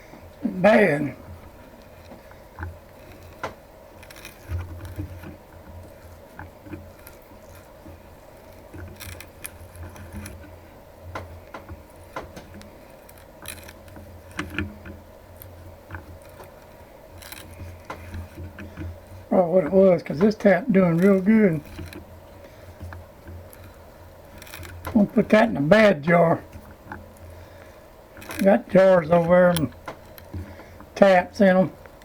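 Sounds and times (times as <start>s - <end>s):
low shop hum: 0.0s - 32.0s
tap wrench clicking and creaking: 1.4s - 32.0s.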